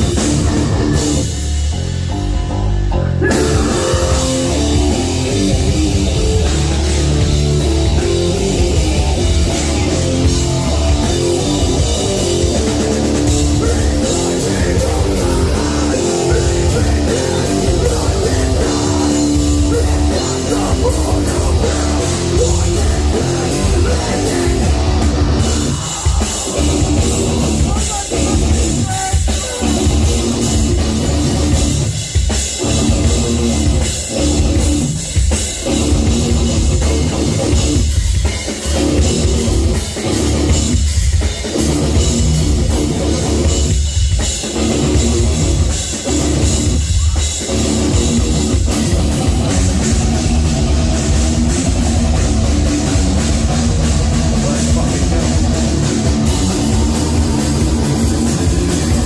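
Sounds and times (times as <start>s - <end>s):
bass guitar: 0.0s - 59.0s
distorted electric guitars: 0.0s - 59.0s
pounding drum kit: 0.0s - 59.0s.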